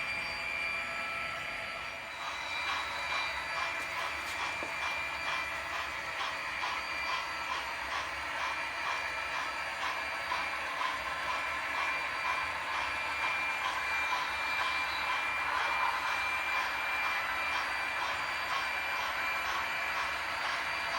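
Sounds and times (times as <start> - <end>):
model train mechanical whine: 0.0 - 20.9.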